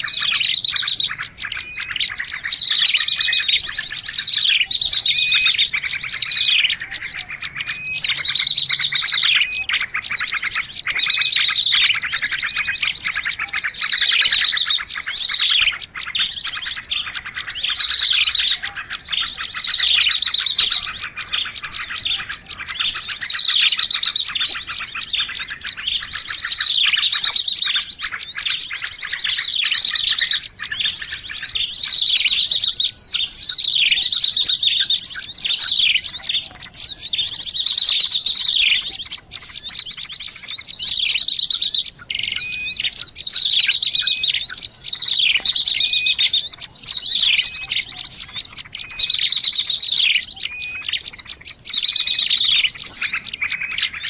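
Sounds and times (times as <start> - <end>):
downward-sweeping bird calls: 0.0 - 54.0
high fast bird trill: 0.0 - 54.0
songbirds chirping: 0.0 - 54.0.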